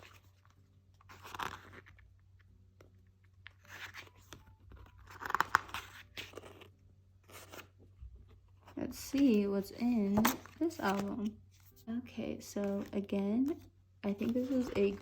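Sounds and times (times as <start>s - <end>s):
paper rustling and crinkling: 0.0s - 2.0s, 3.3s - 11.9s, 12.6s - 15.0s.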